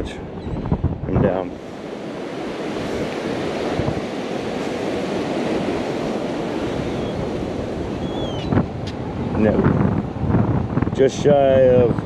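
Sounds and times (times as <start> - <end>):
ocean surf washing ashore: 0.0 - 12.0
wind on microphone: 0.0 - 12.0.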